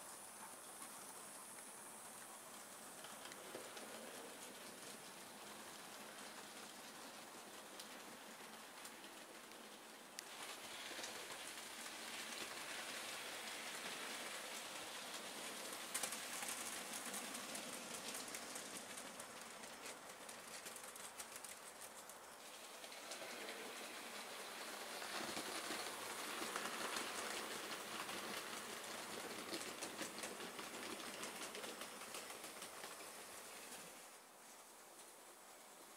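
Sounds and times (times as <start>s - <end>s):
model train wheels rattling: 0.0s - 34.2s.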